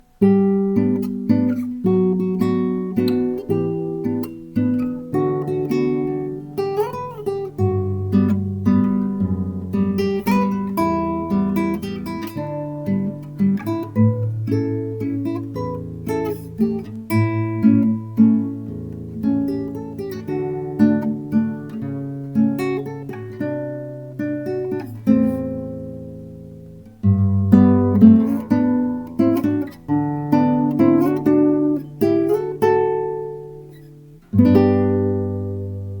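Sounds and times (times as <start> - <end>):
fingerstyle acoustic guitar: 0.0 - 36.0.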